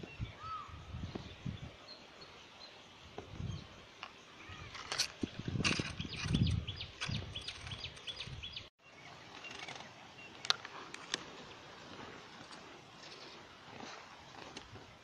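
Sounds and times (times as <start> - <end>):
low rumble of wind: 0.0 - 2.2, 2.9 - 15.0.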